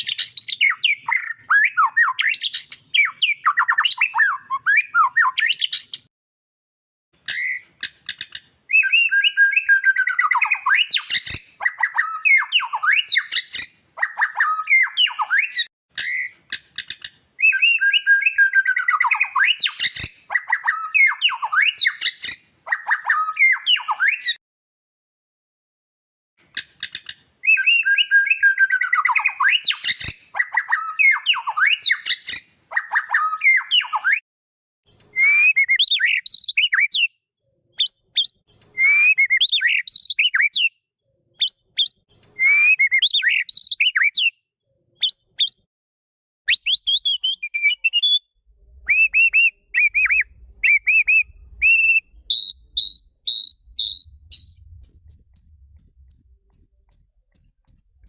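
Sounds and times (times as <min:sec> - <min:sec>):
songbird whistled singing: 0:00.0 - 0:06.1, 0:07.3 - 0:24.4, 0:26.6 - 0:34.2, 0:35.1 - 0:37.2, 0:37.8 - 0:40.8, 0:41.4 - 0:44.4, 0:45.0 - 0:45.7, 0:46.5 - 0:58.0.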